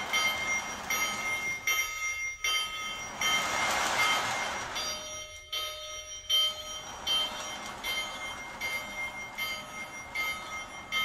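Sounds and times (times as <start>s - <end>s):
bell ringing: 0.0s - 11.0s
toy steam locomotive running: 0.0s - 11.0s.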